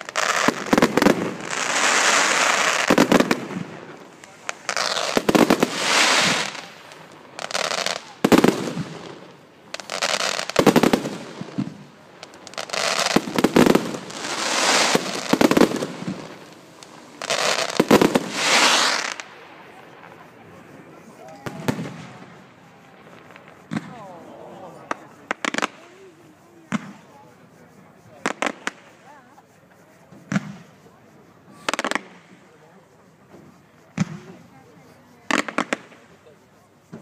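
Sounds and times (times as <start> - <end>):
firework shells bursting: 0.0 - 29.1, 35.3 - 36.2
fireworks crackling after bursts: 0.0 - 37.0.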